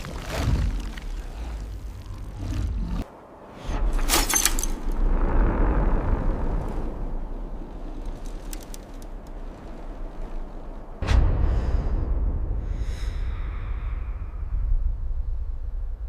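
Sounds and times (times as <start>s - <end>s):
deep rumble: 0.0s - 16.0s
rush of noise: 0.0s - 16.0s.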